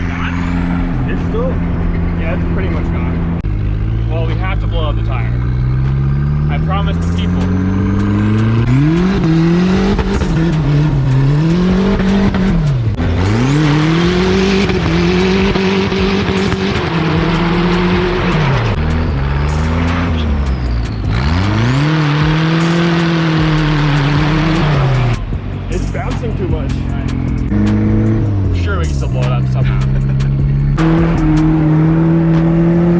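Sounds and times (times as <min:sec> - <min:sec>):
pickup engine at high revs: 0:00.9 - 0:32.9.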